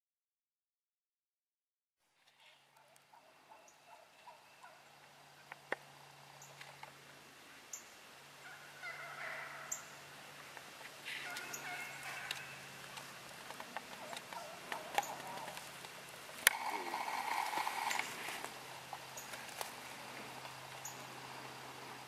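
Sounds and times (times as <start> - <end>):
wild turkey gobbling: 2.3 - 6.6, 7.7 - 21.3.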